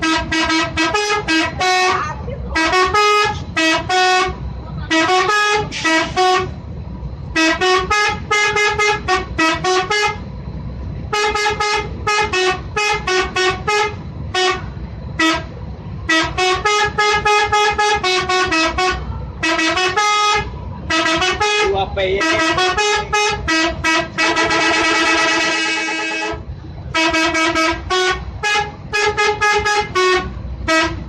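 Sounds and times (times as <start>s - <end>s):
musical air horns tooting: 0.0s - 6.6s, 7.3s - 10.2s, 11.1s - 31.0s
steady low rumble: 0.0s - 31.0s.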